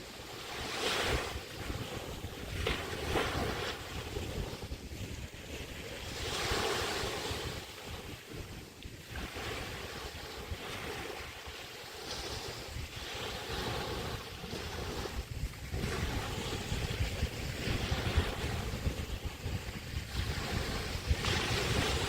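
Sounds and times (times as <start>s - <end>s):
small waves washing on beach: 0.0s - 22.0s
wind rumbling on microphone: 0.0s - 22.0s.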